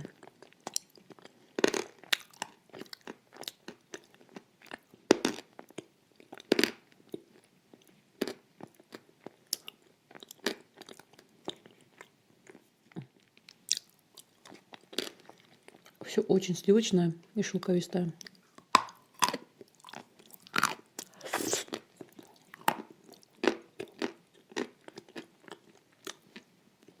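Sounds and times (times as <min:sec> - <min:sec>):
crunchy chewing: 0:00.0 - 0:16.0, 0:18.2 - 0:27.0.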